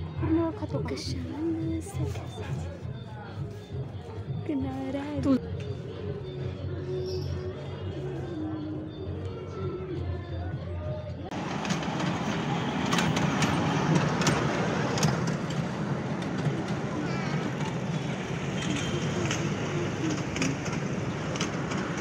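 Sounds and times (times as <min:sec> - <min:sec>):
vehicle engines: 0:00.0 - 0:22.0
distant voices: 0:00.8 - 0:22.0.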